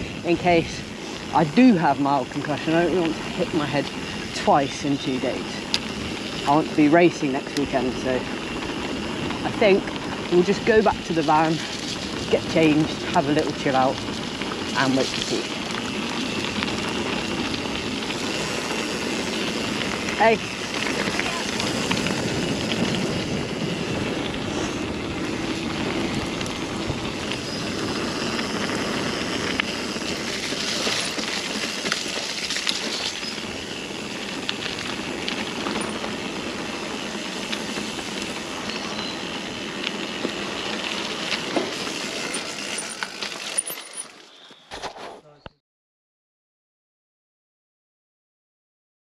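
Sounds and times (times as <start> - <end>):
bike clicks and rattles: 0.0 - 45.0
bike tyre and wind noise: 0.0 - 45.2.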